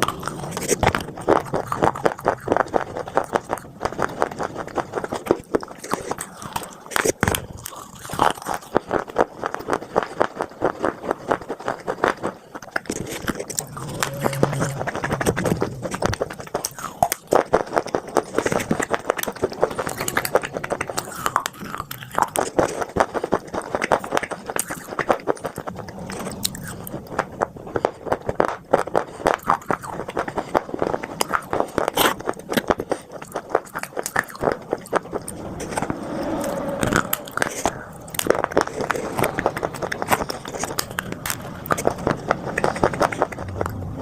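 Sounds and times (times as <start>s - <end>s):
crunchy clay being chewed: 0.0s - 44.0s.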